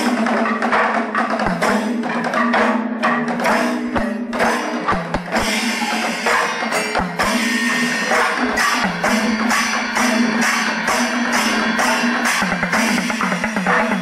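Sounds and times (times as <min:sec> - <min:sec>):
jingling percussion beat: 0:00.0 - 0:14.0.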